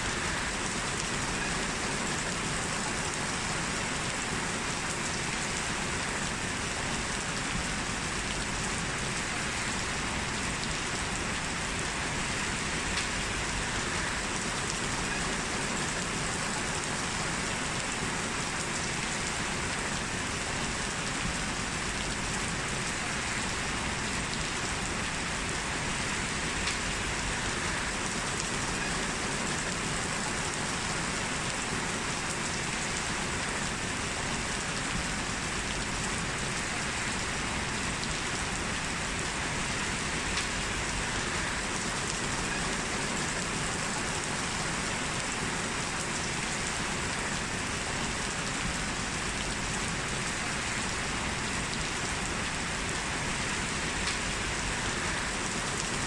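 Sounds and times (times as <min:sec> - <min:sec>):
heavy rain on a street: 0:00.0 - 0:56.0.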